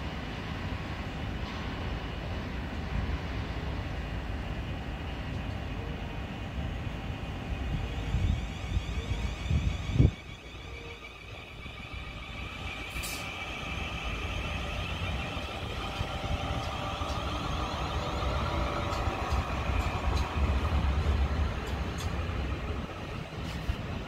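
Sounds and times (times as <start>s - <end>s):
electric train whine: 0.0s - 24.0s
wheels rumbling on rail: 0.0s - 24.0s.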